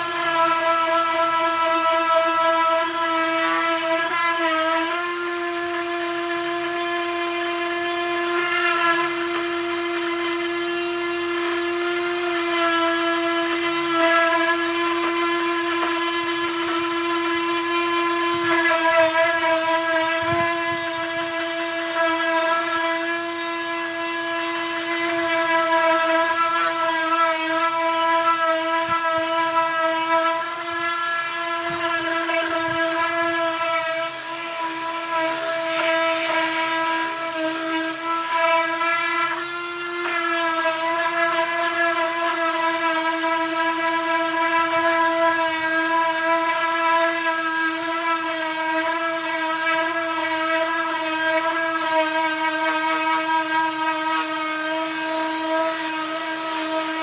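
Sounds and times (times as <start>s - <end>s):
electric sander on wood: 0.0s - 57.0s.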